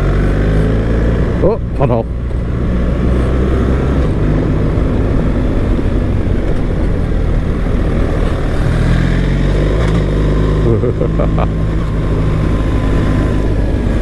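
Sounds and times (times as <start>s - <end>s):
motorcycle engine running: 0.0s - 14.0s
steady rushing noise: 0.0s - 14.0s.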